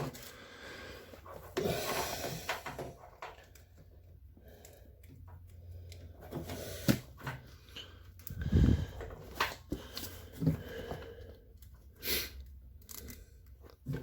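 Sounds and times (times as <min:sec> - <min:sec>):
hands rustling and scraping parts: 0:00.0 - 0:14.0.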